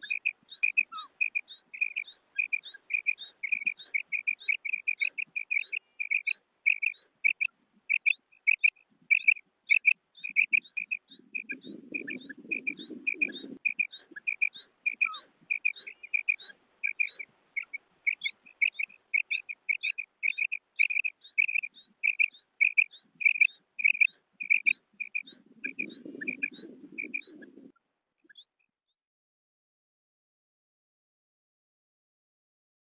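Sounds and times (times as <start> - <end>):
quail calling: 0.0 - 28.5.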